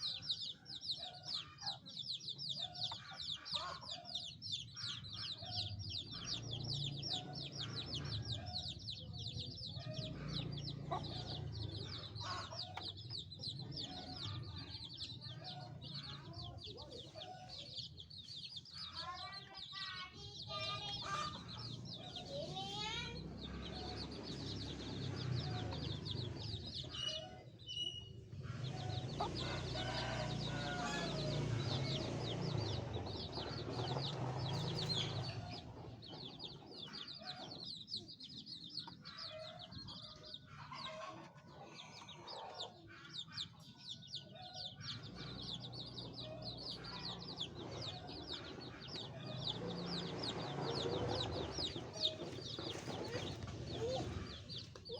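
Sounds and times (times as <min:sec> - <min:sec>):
chicks peeping: 0:00.0 - 0:54.9
hen clucking: 0:00.0 - 0:54.9.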